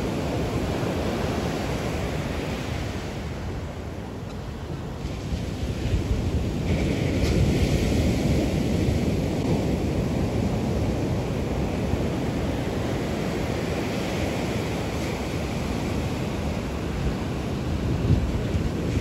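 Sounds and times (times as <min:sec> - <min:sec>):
surf washing on beach: 0:00.0 - 0:19.0
wind buffeting microphone: 0:00.0 - 0:19.0.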